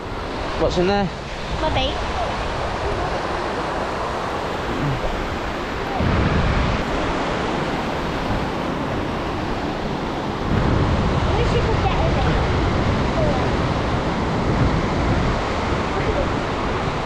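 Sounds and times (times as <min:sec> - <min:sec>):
small waves washing over sand: 0:00.0 - 0:17.0.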